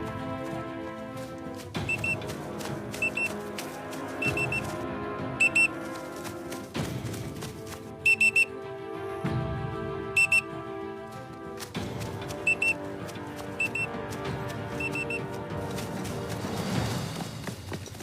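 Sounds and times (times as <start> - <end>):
music with sustained tones: 0.0 - 17.6.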